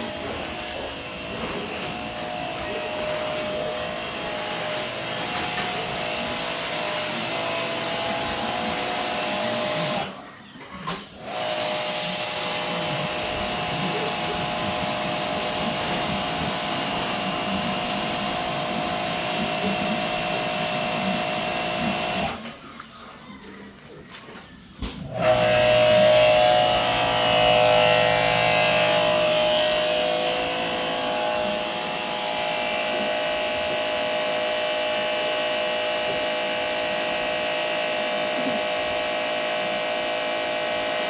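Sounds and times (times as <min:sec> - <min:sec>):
motor-driven machine whining: 0:00.0 - 0:10.2, 0:11.2 - 0:22.4, 0:25.0 - 0:41.0.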